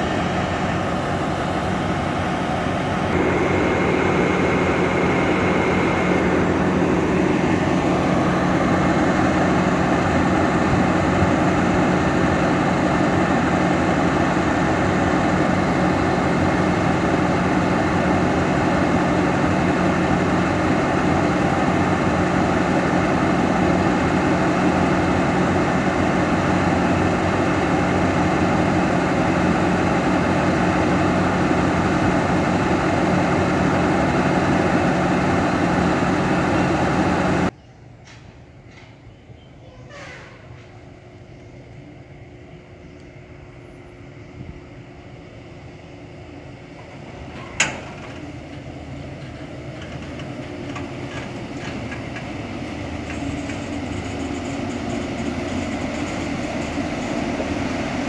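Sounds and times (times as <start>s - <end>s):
locomotive diesel engine idling: 0.0s - 37.6s, 40.1s - 58.0s.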